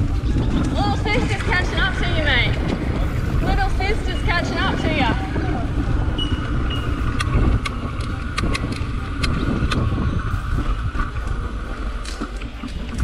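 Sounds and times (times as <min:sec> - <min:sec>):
bike clicks and rattles: 0:00.0 - 0:13.0
wind on microphone: 0:00.0 - 0:13.0.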